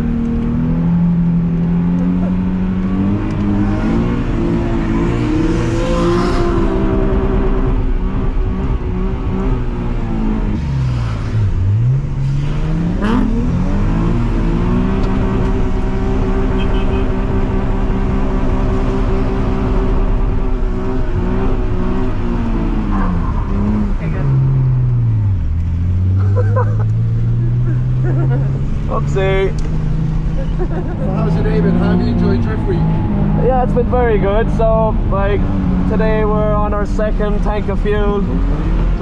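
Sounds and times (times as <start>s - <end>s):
car engine revving high: 0.0s - 39.0s.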